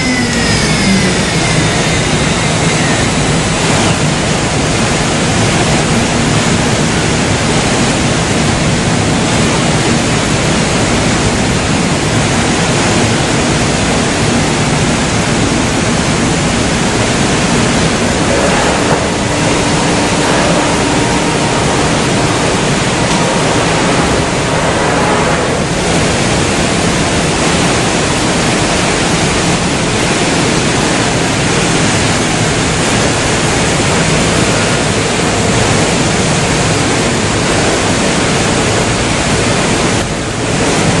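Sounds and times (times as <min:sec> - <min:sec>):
machining center rushing noise: 0:00.0 - 0:41.0.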